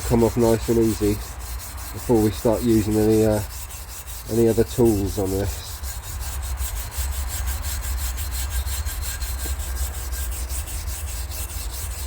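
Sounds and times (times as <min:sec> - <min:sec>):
brush scrubbing rusty metal: 0:00.0 - 0:12.0.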